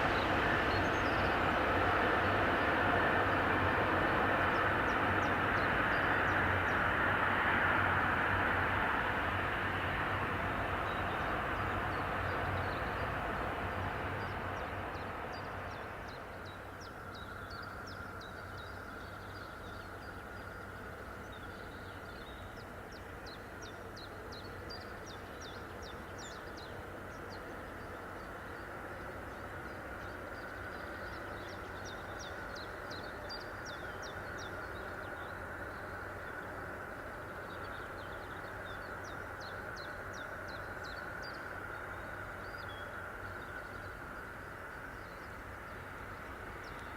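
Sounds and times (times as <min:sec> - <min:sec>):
train on the line: 0:00.0 - 0:46.9.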